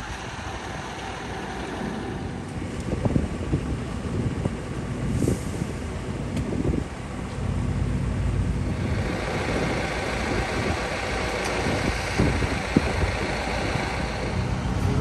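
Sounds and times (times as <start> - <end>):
airliner rumble and hiss: 0.0 - 15.0.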